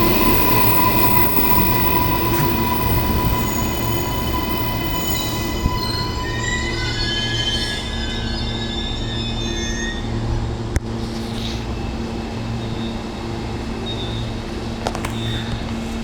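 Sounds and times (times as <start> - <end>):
low train hum: 0.0 - 16.0
train wheels and brakes squealing: 0.0 - 16.0.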